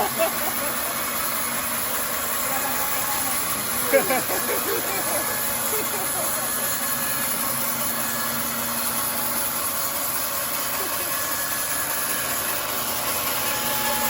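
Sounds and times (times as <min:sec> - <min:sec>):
sawmill running: 0:00.0 - 0:14.0.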